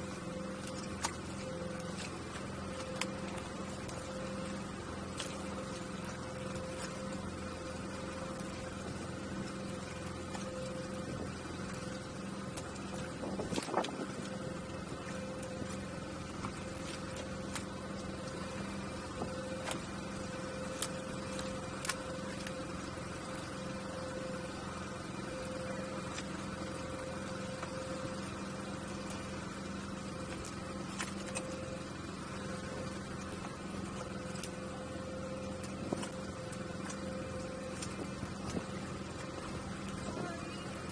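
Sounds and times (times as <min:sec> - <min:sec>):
knocks and slaps in boat: 0:00.0 - 0:40.9
outboard motor idling: 0:00.0 - 0:40.9.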